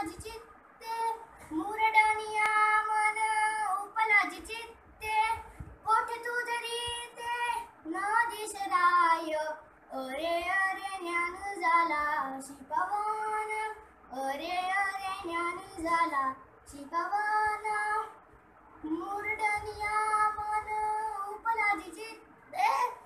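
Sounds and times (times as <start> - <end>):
boy singing: 0.0 - 18.2, 18.8 - 23.0.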